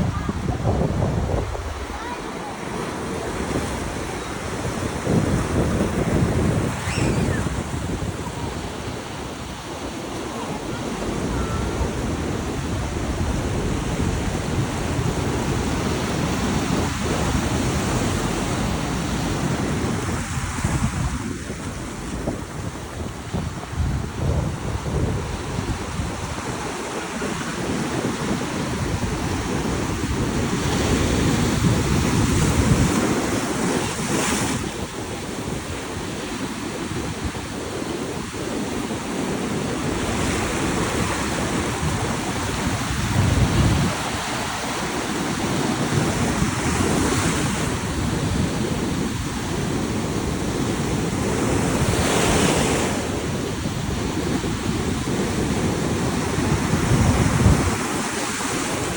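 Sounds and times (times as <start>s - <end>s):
waves breaking on shore: 0.0s - 58.9s
wind buffeting microphone: 0.0s - 58.9s.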